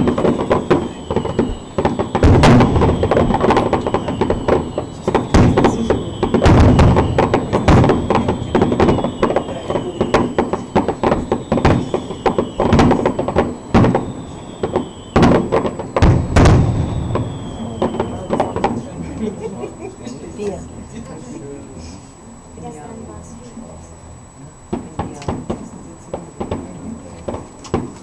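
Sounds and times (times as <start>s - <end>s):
firework shells bursting: 0.0s - 19.6s, 24.7s - 28.0s.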